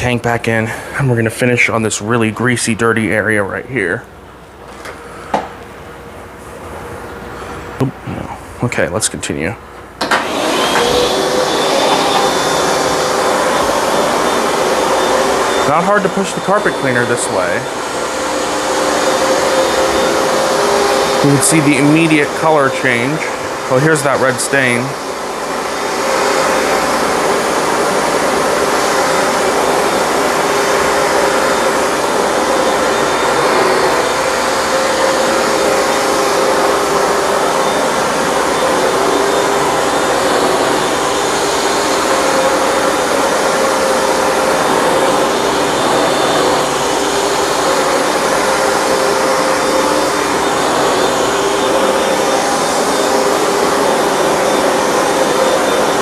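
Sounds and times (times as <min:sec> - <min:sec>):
carpet cleaner running: 0:00.0 - 0:56.0.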